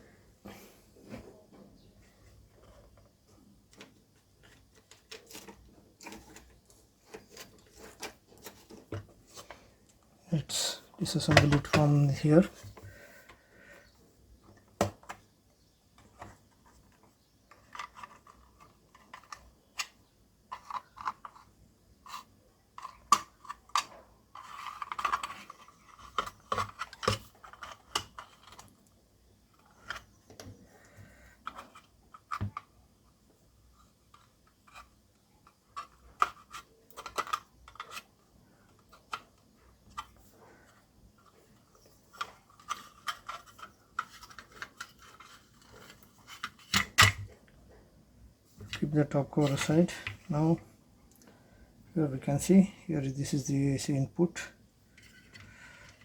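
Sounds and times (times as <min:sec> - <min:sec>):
plastic parts clicking and scraping: 0:01.6 - 0:15.3, 0:15.9 - 0:47.8, 0:48.5 - 0:51.3, 0:54.3 - 0:56.0.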